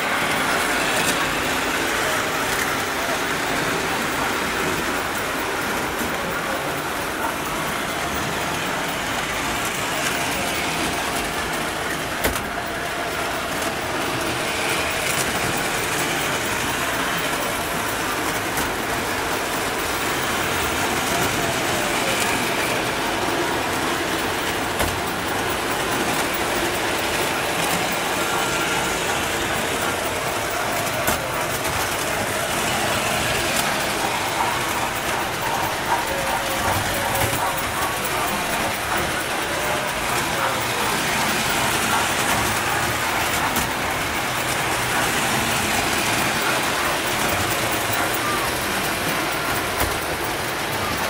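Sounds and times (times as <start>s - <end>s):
model train wheels rumbling: 0.0s - 51.0s.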